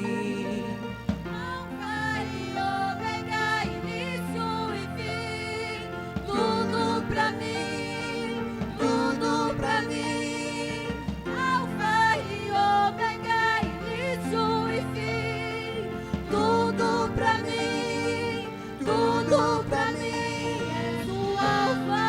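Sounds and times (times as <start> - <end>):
held keyboard chords: 0.0 - 22.0
person singing: 0.0 - 22.0.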